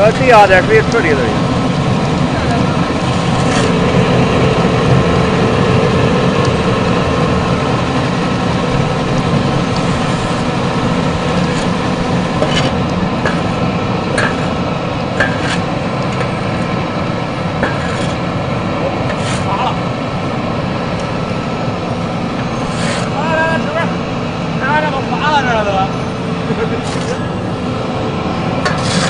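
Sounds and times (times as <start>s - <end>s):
pellet mill mechanical drone: 0.0s - 29.0s.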